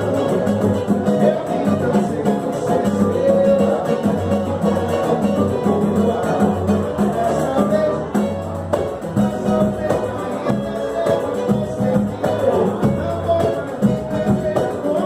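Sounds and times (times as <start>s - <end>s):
cavaquinho: 0.0s - 15.0s
live samba band music: 0.0s - 15.0s
rhythmic bass pulse: 0.0s - 15.0s.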